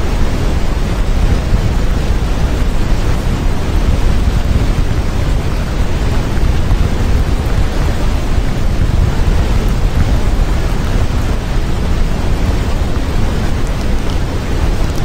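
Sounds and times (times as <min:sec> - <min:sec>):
loud white noise: 0:00.0 - 0:15.0.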